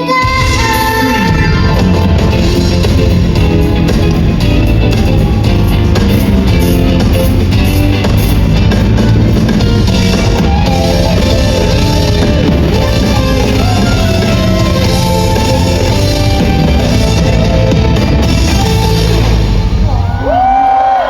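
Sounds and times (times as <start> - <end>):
guitars: 0.0 - 20.4
drum kit: 0.0 - 20.8
loud rock music: 0.0 - 21.0.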